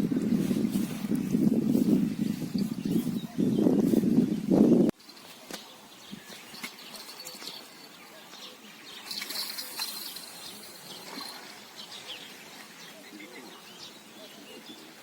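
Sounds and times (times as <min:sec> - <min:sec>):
faint outdoor background: 0:00.0 - 0:15.0
birds chirping: 0:01.7 - 0:15.0.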